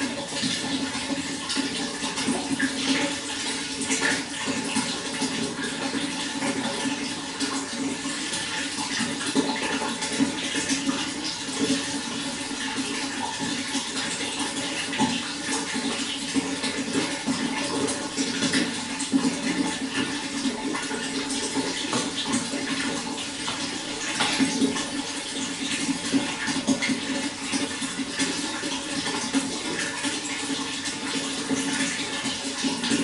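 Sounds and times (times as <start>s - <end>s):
running water gurgling: 0.0s - 33.0s.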